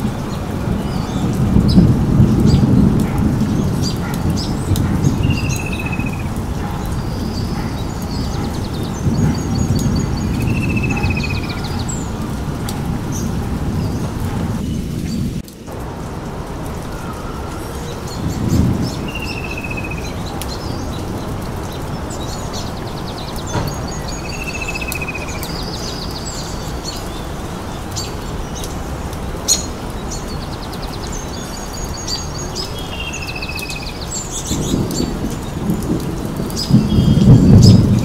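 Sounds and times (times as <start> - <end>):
birds chirping and trilling: 0.0 - 15.5, 16.7 - 38.0
rain hiss: 0.0 - 38.0.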